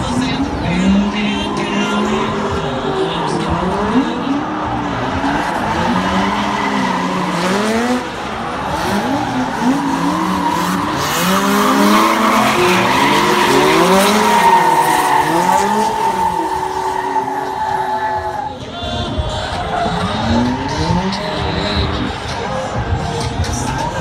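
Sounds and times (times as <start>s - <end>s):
car engines revving: 0.0s - 24.0s
tyres squealing on asphalt: 0.0s - 24.0s.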